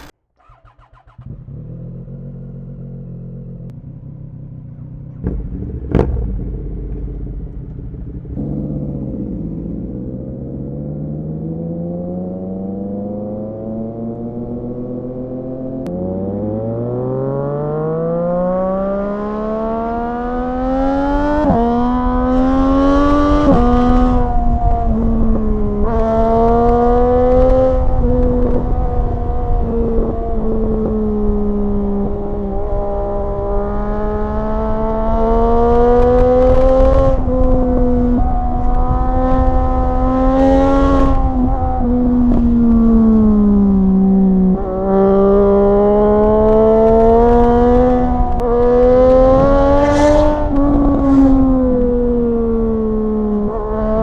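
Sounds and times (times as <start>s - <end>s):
motorcycle engine accelerating: 0.0s - 54.0s
wind rumble: 0.0s - 54.0s.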